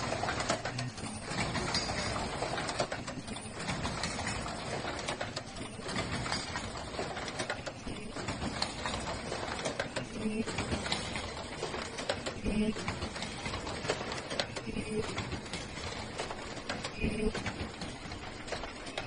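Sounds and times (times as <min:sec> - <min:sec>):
machine clattering quick clicks: 0:00.0 - 0:19.0.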